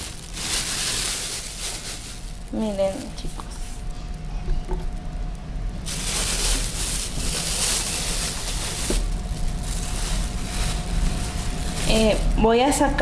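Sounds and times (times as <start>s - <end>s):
wrapping paper rustling: 0.0s - 3.9s, 5.8s - 13.0s.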